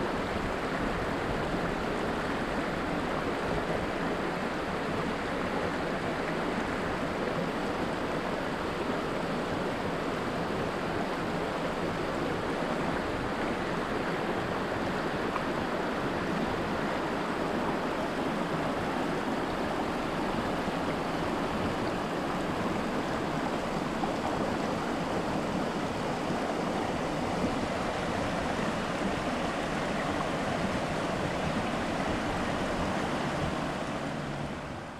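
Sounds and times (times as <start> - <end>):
stream rushing over rocks: 0.0 - 34.9.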